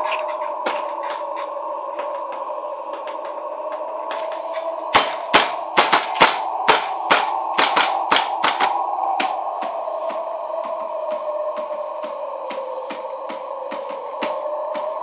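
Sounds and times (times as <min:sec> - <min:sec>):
eerie droning hum: 0:00.0 - 0:15.0.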